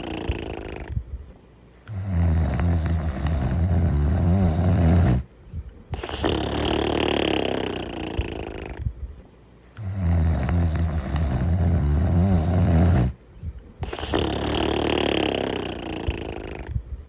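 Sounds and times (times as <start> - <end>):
cartoon snoring: 0.0 - 1.0, 1.8 - 5.3, 6.0 - 8.9, 9.7 - 13.2, 13.8 - 16.8.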